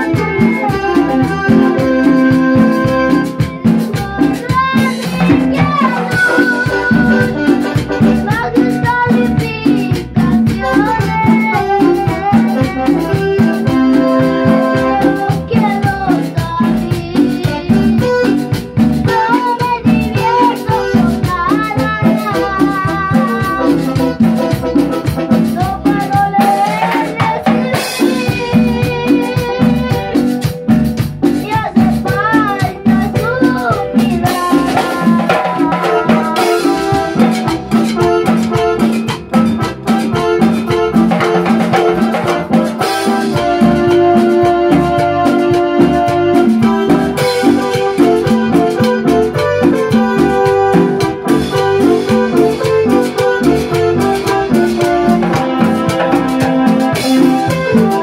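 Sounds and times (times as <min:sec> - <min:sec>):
live band playing latin dance music: 0:00.0 - 0:58.0.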